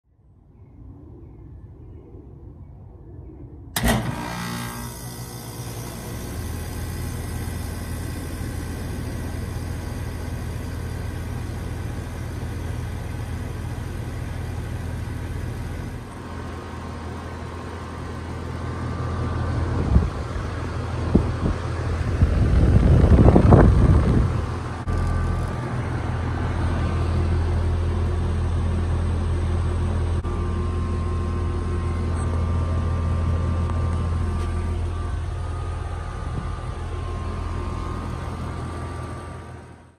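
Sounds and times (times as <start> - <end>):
fan air rushing: 3.6 - 39.9
air conditioner humming: 3.8 - 39.8.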